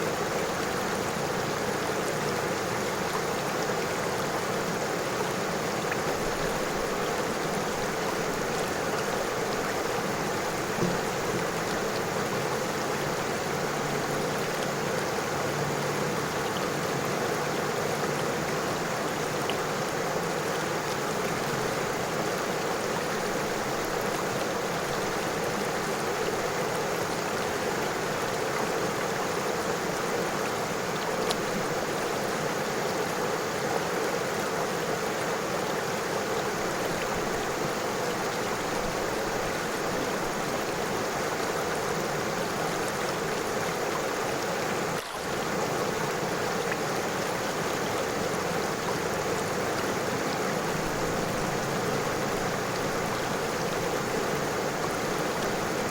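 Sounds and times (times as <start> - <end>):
river flowing over stones: 0.0 - 55.9.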